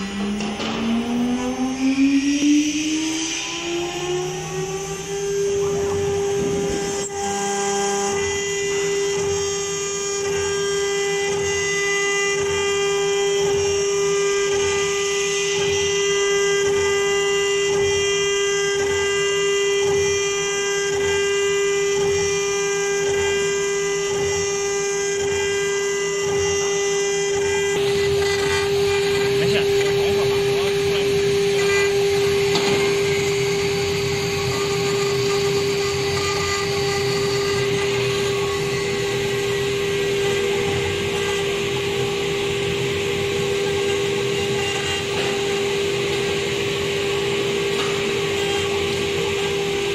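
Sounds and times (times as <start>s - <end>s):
low rhythmic pulsing: 0.0s - 18.9s, 21.6s - 49.9s
router spindles whining: 0.0s - 49.9s.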